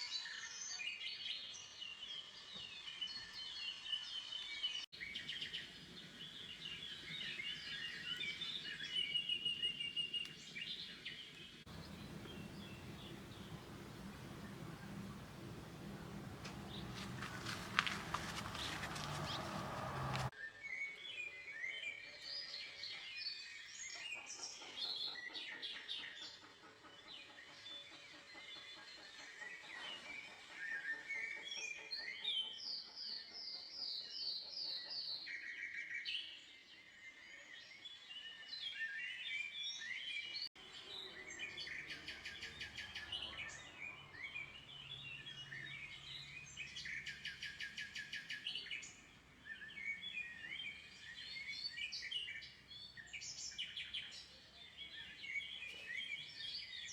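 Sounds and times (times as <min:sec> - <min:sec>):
songbirds chirping and singing: 0:00.0 - 0:26.4, 0:31.2 - 0:56.9.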